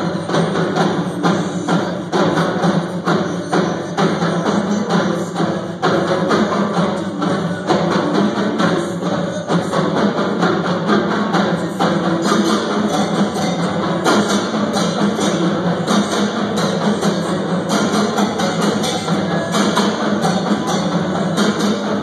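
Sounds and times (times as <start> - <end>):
marching drums: 0.0 - 22.0.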